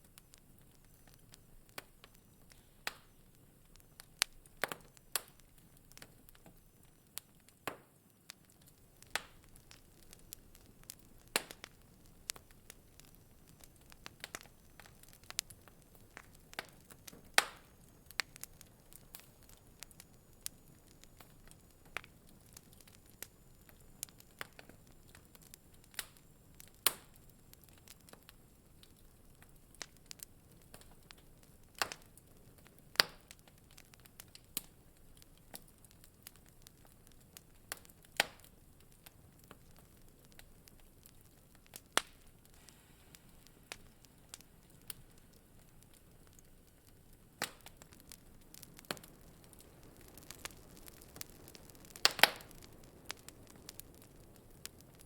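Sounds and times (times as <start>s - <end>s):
faint hiss: 0.0s - 55.0s
wood fire crackling and popping: 0.0s - 55.0s.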